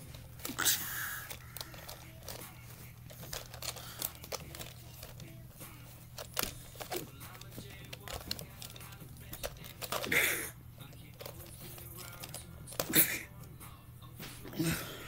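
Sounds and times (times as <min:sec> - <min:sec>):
plastic toys clicking and tapping: 0:00.0 - 0:13.0.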